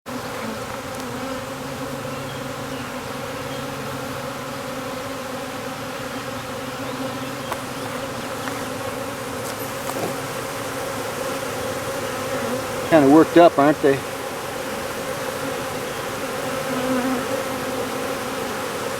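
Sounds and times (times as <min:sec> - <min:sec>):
bees buzzing: 0:00.1 - 0:18.9.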